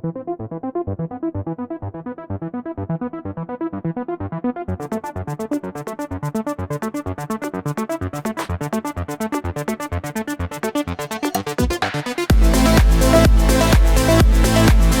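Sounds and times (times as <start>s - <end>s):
electronic synthesizer music: 2.8s - 15.0s.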